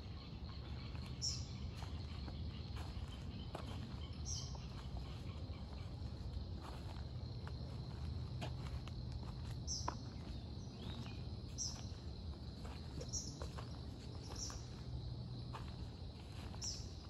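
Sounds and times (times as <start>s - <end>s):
insect drone: 0.0s - 17.0s
footsteps crunching on wood chips: 0.7s - 17.0s.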